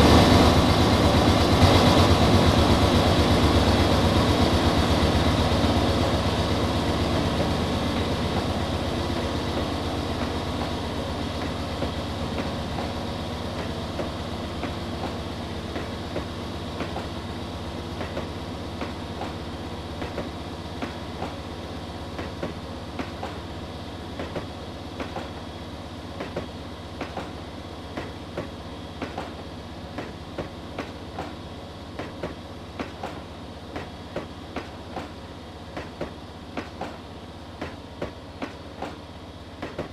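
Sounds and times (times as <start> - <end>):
diesel locomotive engine hum: 0.0 - 39.9
train wheels clacking over rail joints: 0.0 - 39.9.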